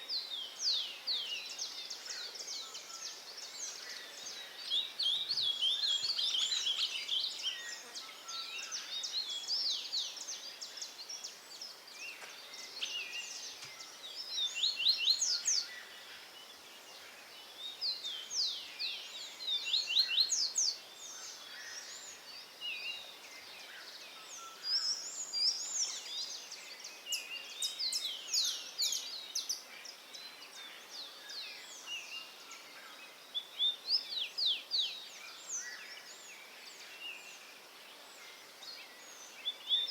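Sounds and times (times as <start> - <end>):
faint outdoor background noise: 0.0 - 39.9
songbirds singing: 0.0 - 39.9.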